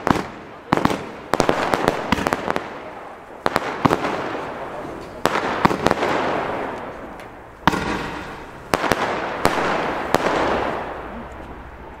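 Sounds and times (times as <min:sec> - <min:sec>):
firework shots bursting: 0:00.0 - 0:11.6
firework stars crackling: 0:00.0 - 0:12.0.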